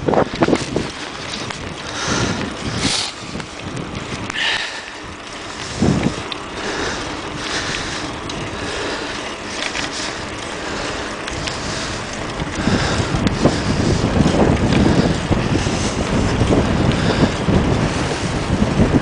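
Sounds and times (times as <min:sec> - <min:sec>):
bicycle tyres rolling on asphalt: 0:00.0 - 0:19.0
wind buffeting microphone: 0:00.0 - 0:19.0
small rattling clicks: 0:00.1 - 0:17.6.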